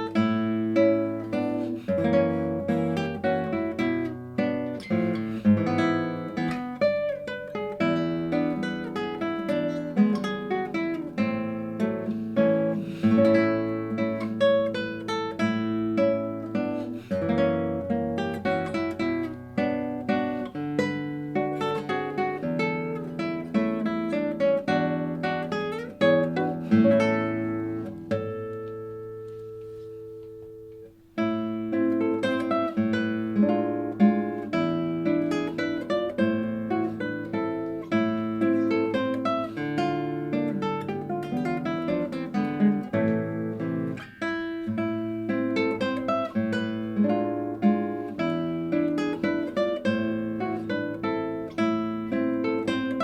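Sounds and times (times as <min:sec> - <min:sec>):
solo classical guitar playing: 0:00.0 - 0:53.0.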